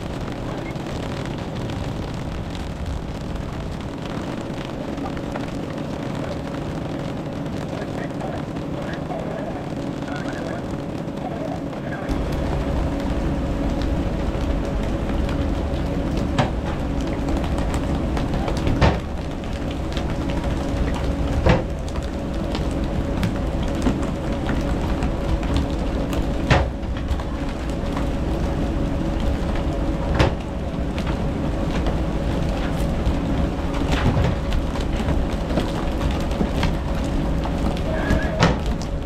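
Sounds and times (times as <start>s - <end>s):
boat engine running: 0.0s - 39.0s
water rushing: 0.0s - 39.0s.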